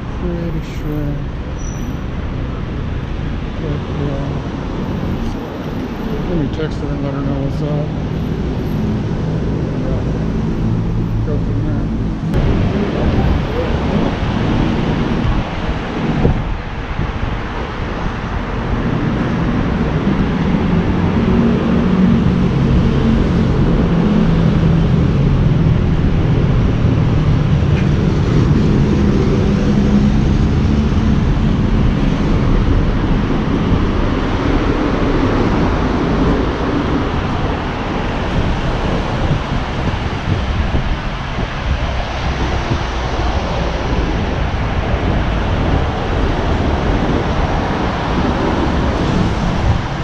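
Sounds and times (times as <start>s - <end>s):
city traffic rumble: 0.0s - 50.0s
low engine drone: 0.0s - 50.0s
wind buffeting microphone: 0.0s - 50.0s.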